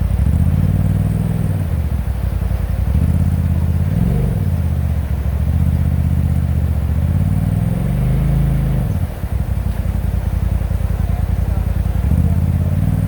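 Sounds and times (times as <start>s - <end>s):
off-road vehicle engine under throttle: 0.0s - 13.0s.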